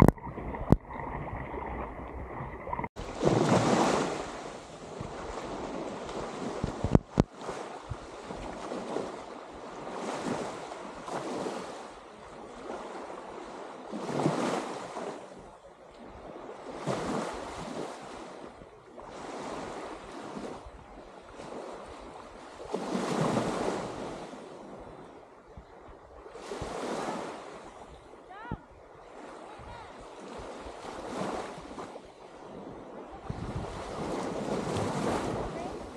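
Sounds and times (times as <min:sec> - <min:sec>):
waves washing onto sandy beach: 0:00.0 - 0:35.9.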